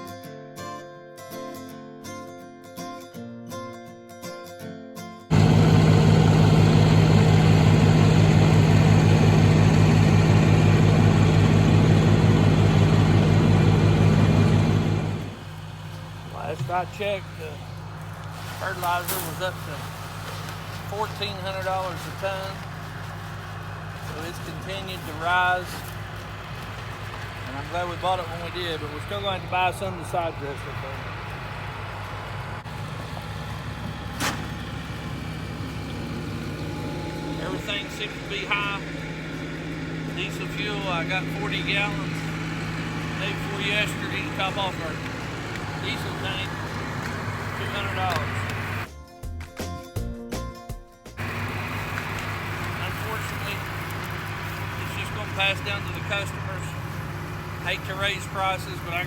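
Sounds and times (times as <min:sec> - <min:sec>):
tractor engine running: 0:05.3 - 0:48.9, 0:51.2 - 0:59.0.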